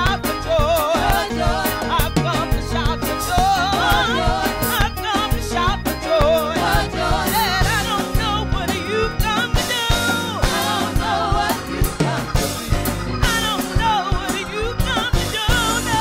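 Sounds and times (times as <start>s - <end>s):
gospel choir singing: 0.0s - 16.0s
lead singers on microphones: 0.0s - 16.0s
steady drum beat: 0.0s - 16.0s.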